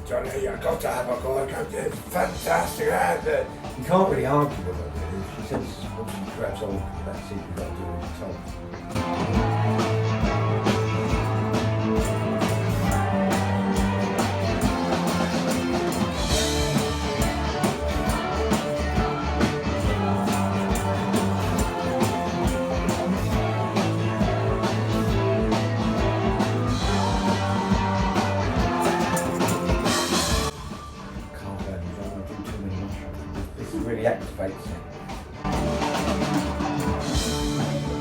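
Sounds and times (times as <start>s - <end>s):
rock music with guitar: 0.0s - 38.0s.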